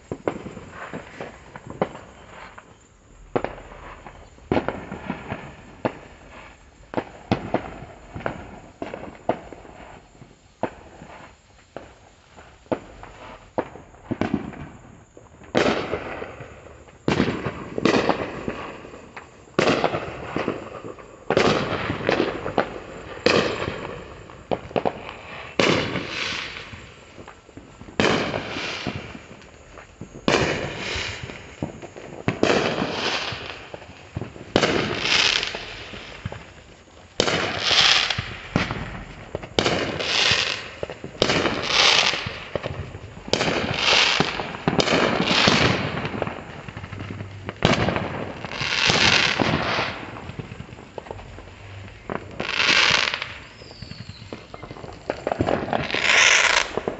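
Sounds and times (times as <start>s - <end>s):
firework explosions: 0.0s - 56.9s.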